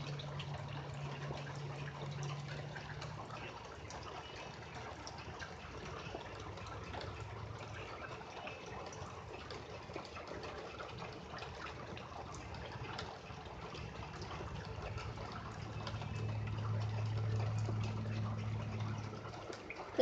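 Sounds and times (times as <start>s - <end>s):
steady rain falling: 0.0s - 20.0s
water drops ticking: 0.0s - 20.0s.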